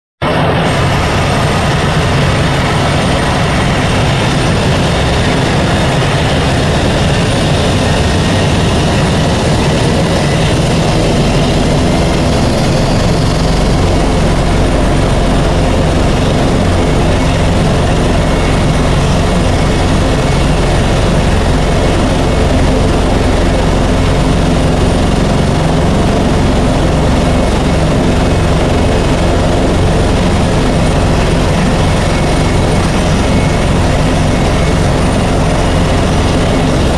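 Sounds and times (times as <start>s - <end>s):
helicopter engine and rotor: 0.2s - 36.9s
thin high whine: 0.2s - 36.9s.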